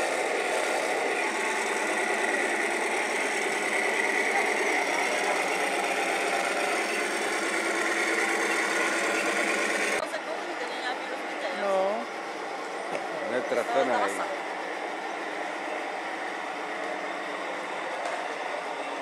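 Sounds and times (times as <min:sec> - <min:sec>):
model tank motors running: 0:00.0 - 0:19.0.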